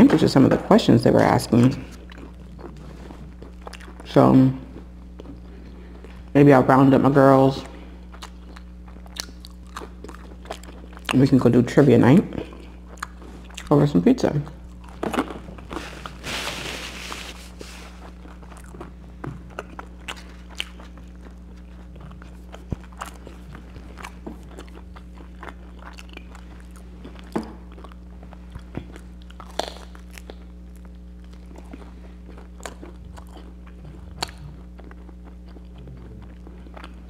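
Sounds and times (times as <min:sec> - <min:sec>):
low hum: 0:00.0 - 0:37.0
person chewing crusty bread: 0:01.6 - 0:06.3, 0:07.6 - 0:11.3, 0:12.3 - 0:13.8, 0:14.4 - 0:37.0.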